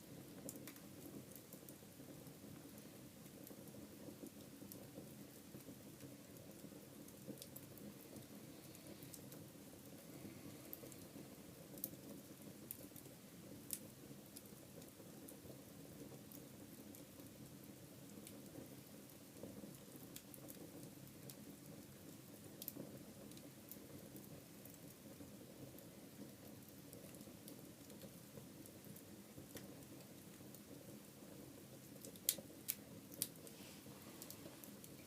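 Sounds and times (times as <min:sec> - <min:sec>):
fire crackling and popping: 0:00.0 - 0:35.0
wood fire burning: 0:00.0 - 0:35.0.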